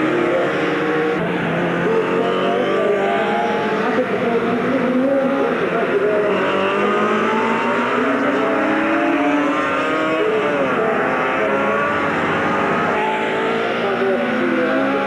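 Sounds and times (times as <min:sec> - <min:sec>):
racing motorcycles at full throttle: 0:00.0 - 0:15.0.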